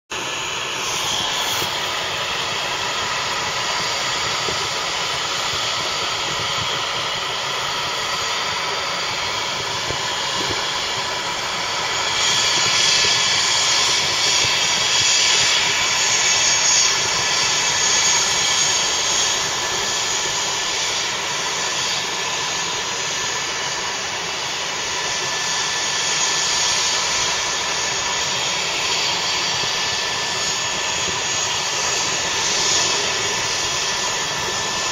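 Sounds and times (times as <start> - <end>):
helicopter turbine engine running: 0.1 - 34.9.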